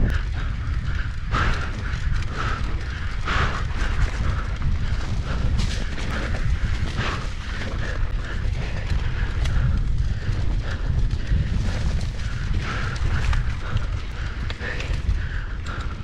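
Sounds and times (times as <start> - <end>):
bike clicks and rattles: 0.0 - 16.0
wind rumble on microphone: 0.0 - 16.0.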